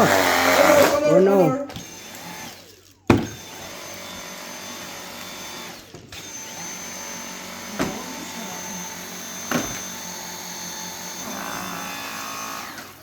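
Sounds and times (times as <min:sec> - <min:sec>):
vacuum cleaner high whine: 0:00.0 - 0:02.4, 0:03.3 - 0:13.0.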